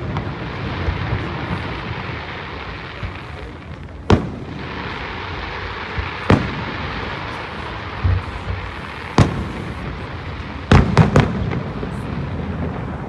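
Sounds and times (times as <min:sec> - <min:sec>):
fireworks bangs: 0:00.0 - 0:13.0
steady background hiss: 0:00.0 - 0:13.0.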